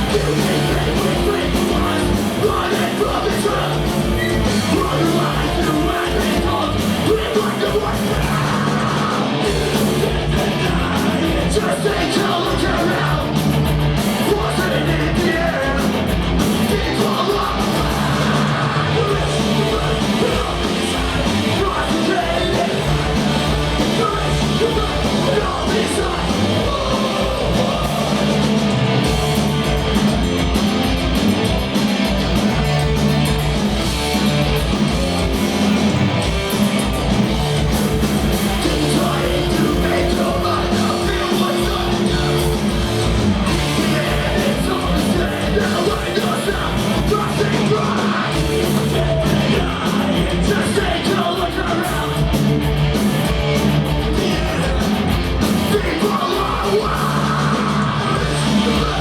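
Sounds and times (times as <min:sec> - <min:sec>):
person singing: 0:00.0 - 0:28.5, 0:38.4 - 0:52.4, 0:54.0 - 0:59.0
punk rock band playing live: 0:00.0 - 0:59.0.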